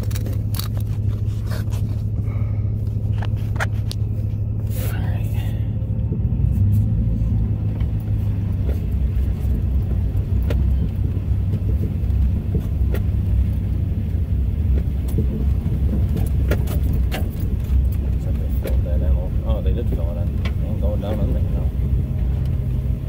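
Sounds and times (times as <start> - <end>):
clicks and rattles over bumps: 0.0 - 4.5, 7.6 - 23.0
truck engine drone: 0.0 - 23.0.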